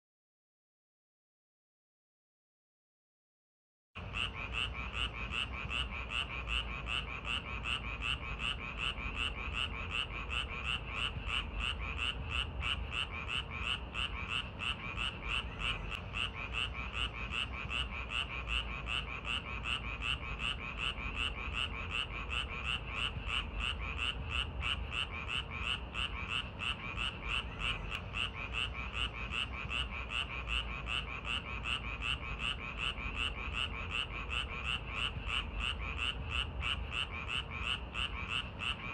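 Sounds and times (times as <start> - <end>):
frogs croaking: 4.0 - 38.9.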